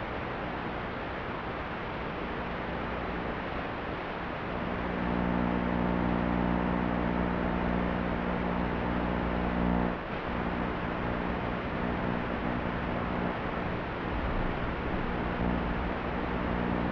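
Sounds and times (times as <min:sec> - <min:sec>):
radio static hiss: 0:02.2 - 0:16.9.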